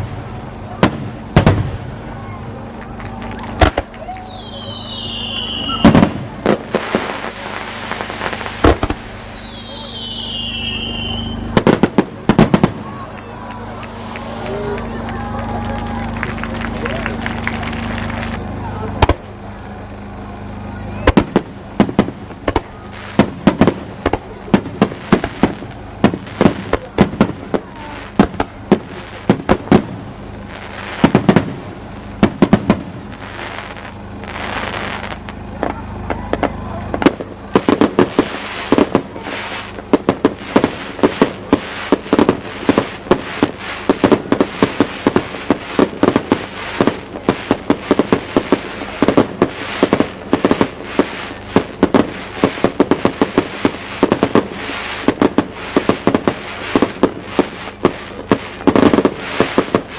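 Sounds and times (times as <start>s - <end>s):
fireworks bursting in volleys: 0.0s - 59.9s
hissing crackling fireworks: 0.0s - 59.9s.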